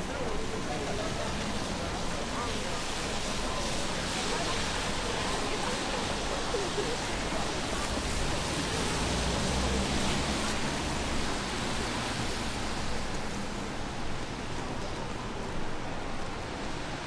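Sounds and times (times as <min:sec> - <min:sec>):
rain hissing on street: 0:00.0 - 0:17.0.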